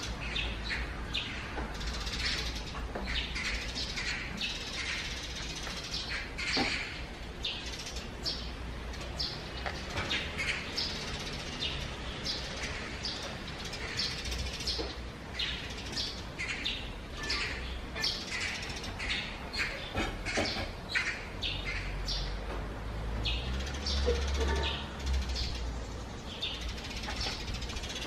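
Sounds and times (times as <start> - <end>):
small birds chirping: 0.0 - 22.5, 23.1 - 28.0.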